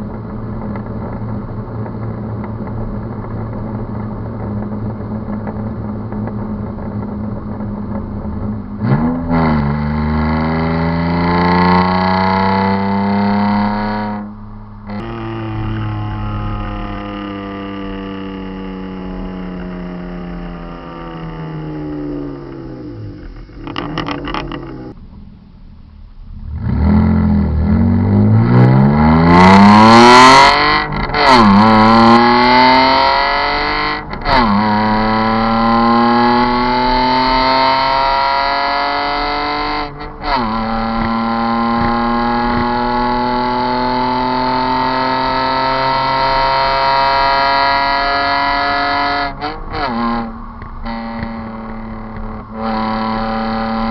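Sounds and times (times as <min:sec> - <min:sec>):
car engine accelerating hard: 0:00.0 - 0:25.0, 0:25.7 - 0:53.9
exhaust crackles: 0:00.0 - 0:38.2, 0:45.7 - 0:53.9.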